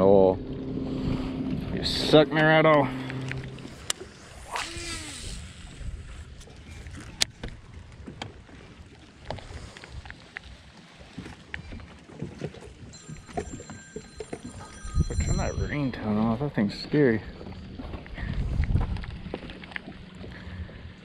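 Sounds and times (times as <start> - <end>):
wind and water rumble: 0.0 - 21.0.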